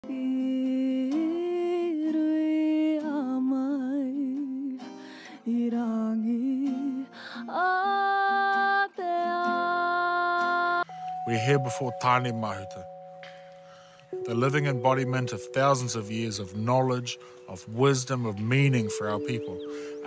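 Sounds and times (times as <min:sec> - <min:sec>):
solo voice singing slow melody: 0:00.0 - 0:12.9, 0:14.2 - 0:20.0.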